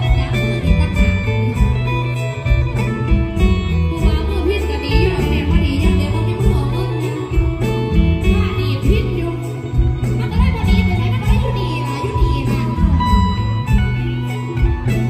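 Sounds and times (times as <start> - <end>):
bass and drum beat: 0.0 - 15.0
plucked electric lute: 0.0 - 15.0.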